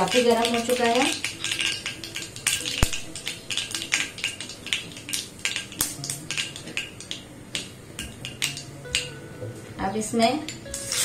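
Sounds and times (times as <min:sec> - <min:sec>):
mustard seeds popping in hot oil: 0:00.0 - 0:09.3.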